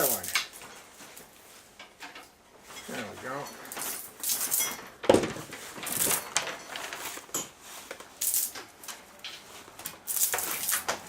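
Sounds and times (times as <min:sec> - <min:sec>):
wire and tools clicking and rattling: 0:00.0 - 0:11.0.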